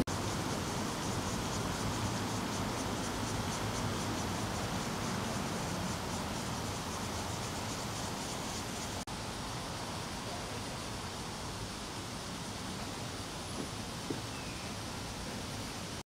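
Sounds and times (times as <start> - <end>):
insects pulsing calls: 0.0 - 16.0
outdoor background hiss: 0.0 - 16.0.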